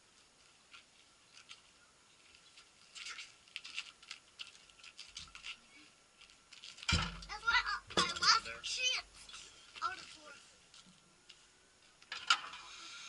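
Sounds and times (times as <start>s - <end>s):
footsteps on gravel: 0.2s - 12.1s.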